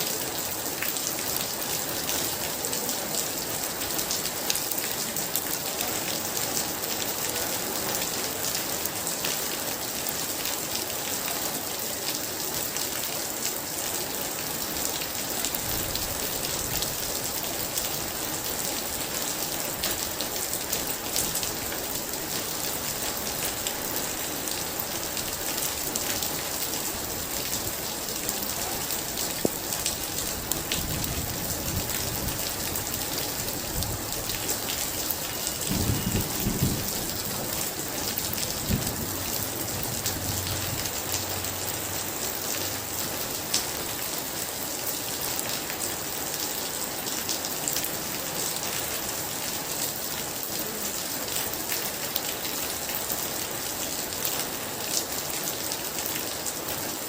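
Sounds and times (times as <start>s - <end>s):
very heavy rain: 0.0s - 57.0s.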